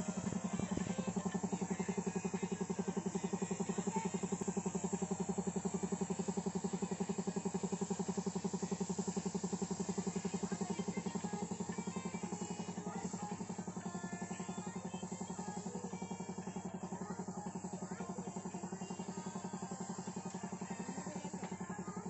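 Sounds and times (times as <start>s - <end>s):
air compressor running: 0.0s - 22.0s.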